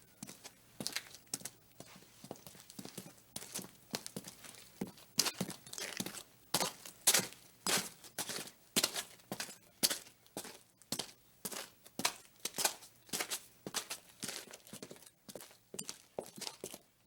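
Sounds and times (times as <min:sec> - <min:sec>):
footsteps on crunchy surface: 0:00.2 - 0:16.8.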